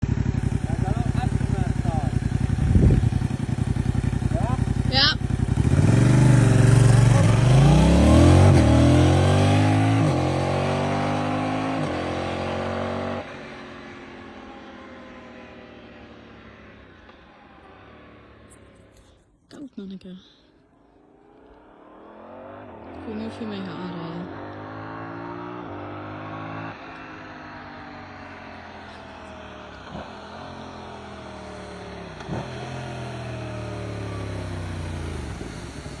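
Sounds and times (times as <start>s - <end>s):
motorcycle engine accelerating: 0.0s - 19.2s, 21.0s - 36.0s.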